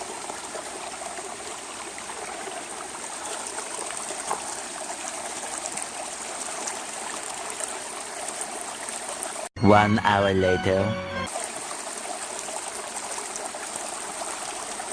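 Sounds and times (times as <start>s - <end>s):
creek water running over rocks: 0.0s - 9.5s, 11.3s - 14.9s.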